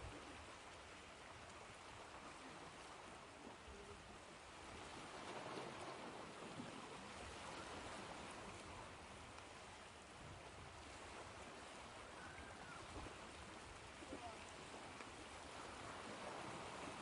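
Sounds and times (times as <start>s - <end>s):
ocean waves washing in: 2.0s - 17.0s.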